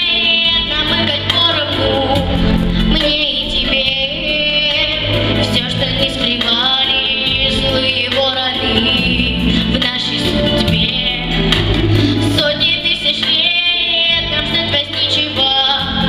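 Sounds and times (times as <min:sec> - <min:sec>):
girl singing pop song: 0:00.0 - 0:16.0
instrumental backing track: 0:00.0 - 0:16.0.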